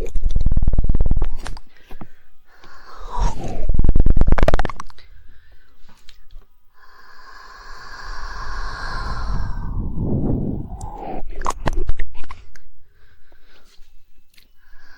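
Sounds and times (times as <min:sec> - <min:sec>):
breathy hissing mouth sound: 0:02.5 - 0:14.9.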